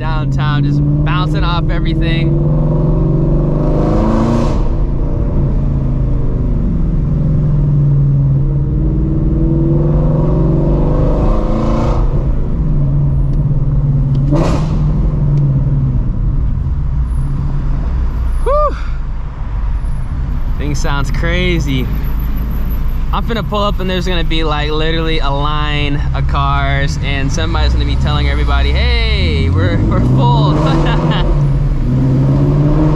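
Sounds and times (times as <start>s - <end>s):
car exhaust accelerating: 0.0s - 32.9s.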